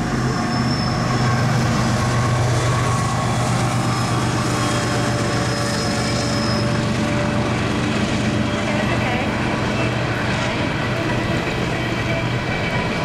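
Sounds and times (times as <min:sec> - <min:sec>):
diesel locomotives droning: 0:00.0 - 0:13.0.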